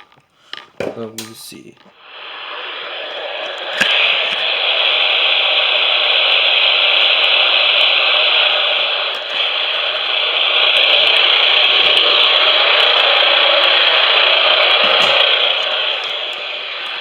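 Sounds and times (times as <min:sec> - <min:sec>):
radio static hiss: 0:00.0 - 0:17.0
click: 0:03.1 - 0:17.0.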